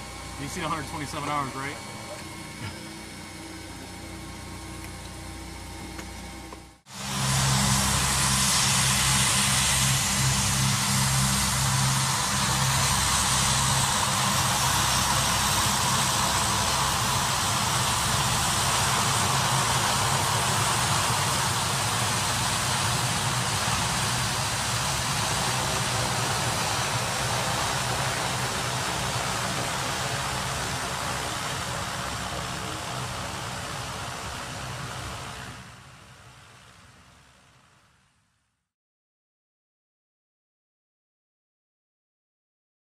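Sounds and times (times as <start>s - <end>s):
turboprop engines droning: 0.0s - 37.8s.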